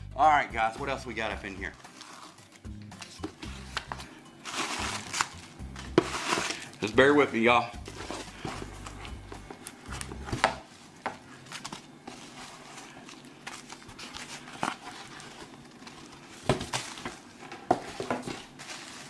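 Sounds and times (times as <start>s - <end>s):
packing rustling and crinkling: 1.8s - 7.0s, 7.8s - 19.0s.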